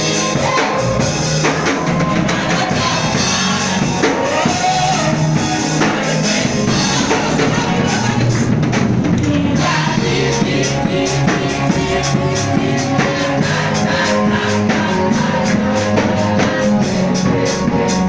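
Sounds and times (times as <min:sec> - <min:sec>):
band music: 0:00.0 - 0:18.0
steady drum beat: 0:00.0 - 0:18.0.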